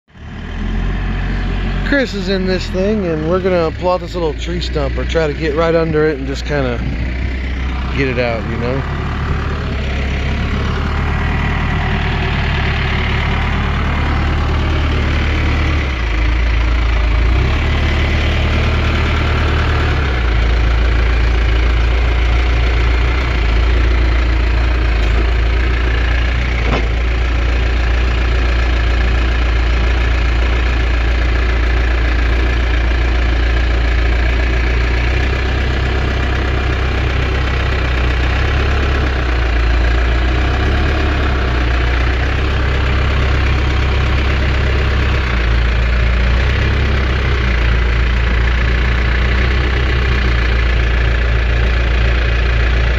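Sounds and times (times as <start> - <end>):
backhoe engine droning: 0.0 - 52.9.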